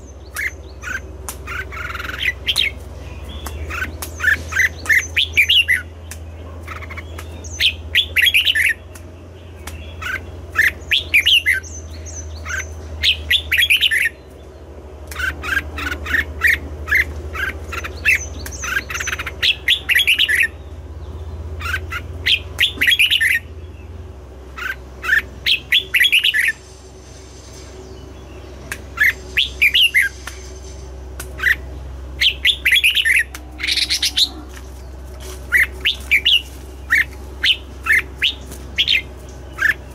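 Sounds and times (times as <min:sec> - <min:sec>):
bird chirping: 0:00.0 - 0:39.9
steady low hum: 0:00.0 - 0:39.9.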